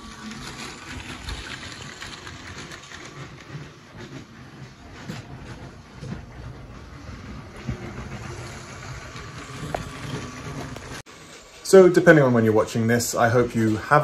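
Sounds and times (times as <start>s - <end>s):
toy train rumbling on track: 0.0s - 14.0s.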